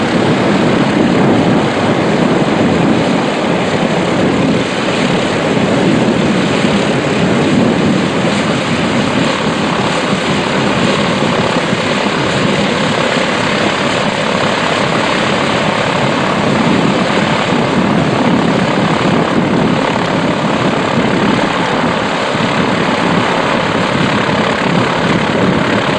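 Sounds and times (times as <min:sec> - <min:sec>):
seaplane engine and propeller running: 0:00.0 - 0:25.9.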